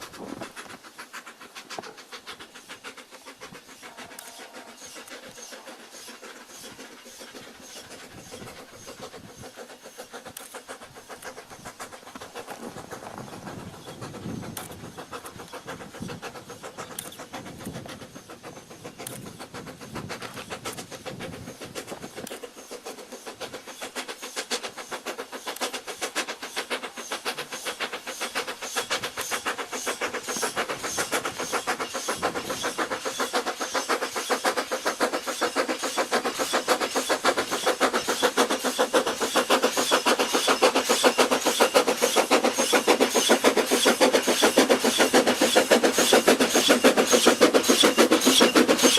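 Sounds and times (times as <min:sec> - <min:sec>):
steam locomotive chuffing: 0:00.0 - 0:48.9.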